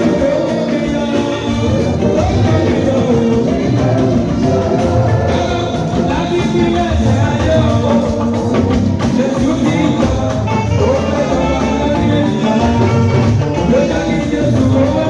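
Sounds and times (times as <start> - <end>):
church choir singing: 0.0 - 15.0
instrumental accompaniment with bass: 0.0 - 15.0.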